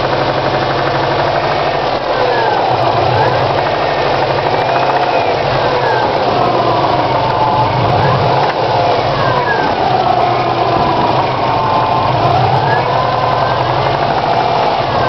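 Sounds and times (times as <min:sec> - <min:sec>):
car engine idling with knock: 0:00.0 - 0:15.0.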